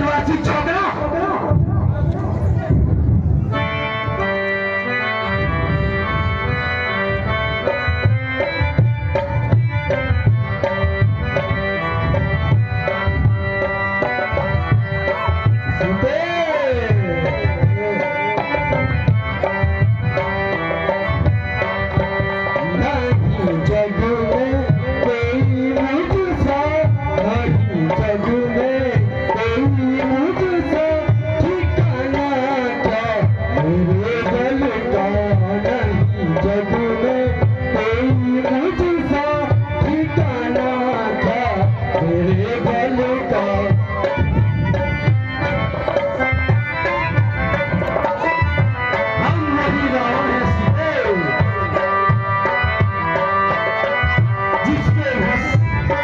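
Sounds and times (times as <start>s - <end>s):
reed keyboard chords: 0.0s - 56.0s.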